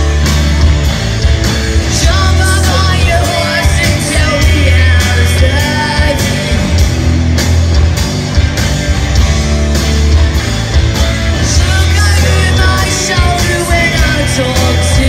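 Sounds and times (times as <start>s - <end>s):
drums: 0.0s - 15.0s
electric guitar: 0.0s - 15.0s
heavy bass line: 0.0s - 15.0s.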